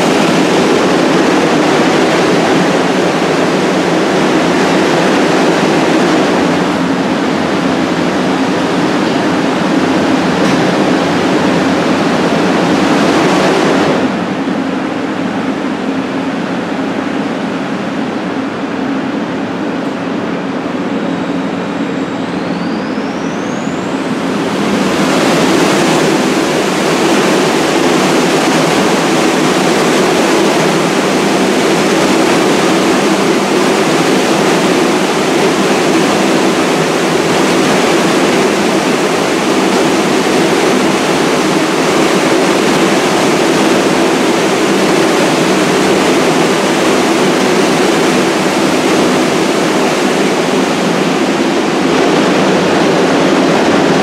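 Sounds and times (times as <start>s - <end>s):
subway train wheels on rails: 0.0s - 54.0s.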